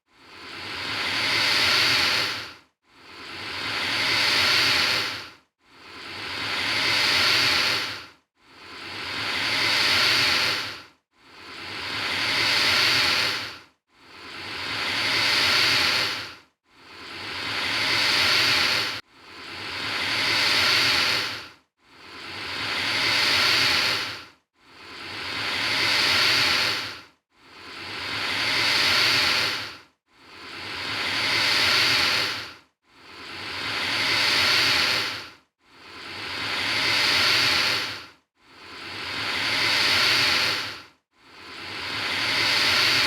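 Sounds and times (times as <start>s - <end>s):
alligator hissing: 0.2s - 5.2s, 5.9s - 8.0s, 8.6s - 10.8s, 11.4s - 13.6s, 14.2s - 21.4s, 22.0s - 27.0s, 27.6s - 35.3s, 35.9s - 38.0s, 38.7s - 40.8s, 41.4s - 43.0s.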